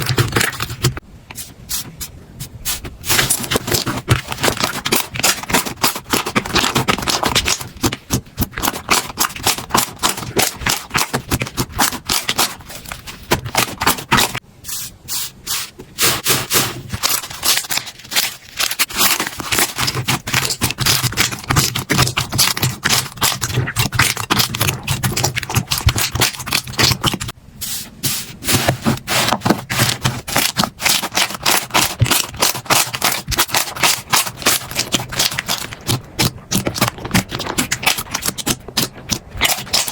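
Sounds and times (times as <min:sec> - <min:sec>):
slime crackling and popping: 0:03.1 - 0:14.4, 0:16.2 - 0:27.3, 0:29.7 - 0:39.9.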